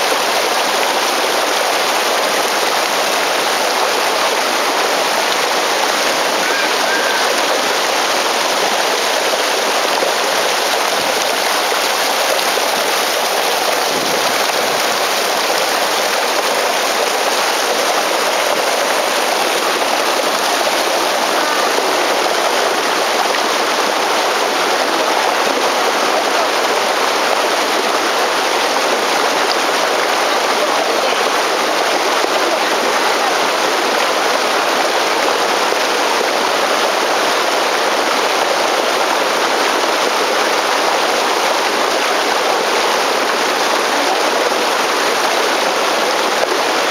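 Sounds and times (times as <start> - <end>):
river rushing over stones: 0.0 - 46.9.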